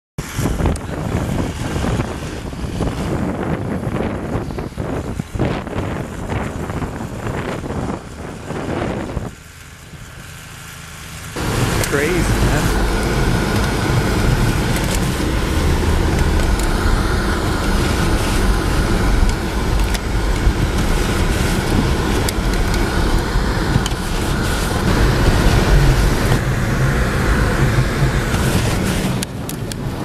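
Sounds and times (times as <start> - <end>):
car engine and tyre rumble: 0.2 - 30.0.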